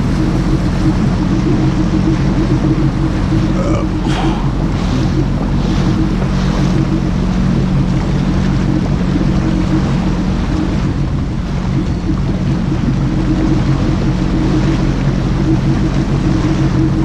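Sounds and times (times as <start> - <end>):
jet ski engine running: 0.0 - 17.0
water rushing: 0.0 - 17.0
wind noise: 0.0 - 17.0.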